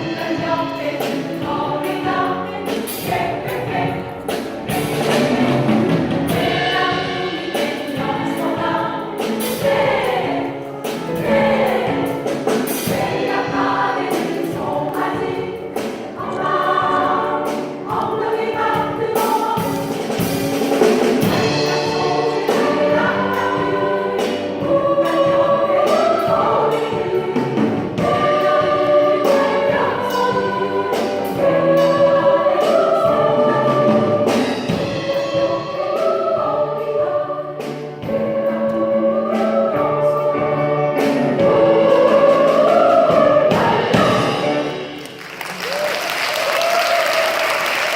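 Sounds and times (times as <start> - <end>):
choir singing: 0.0 - 45.2.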